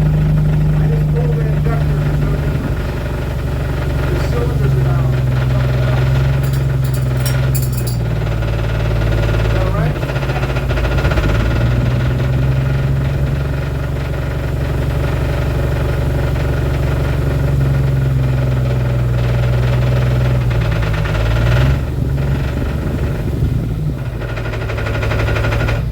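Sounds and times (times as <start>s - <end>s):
engine idling rough with knock: 0.0s - 25.9s.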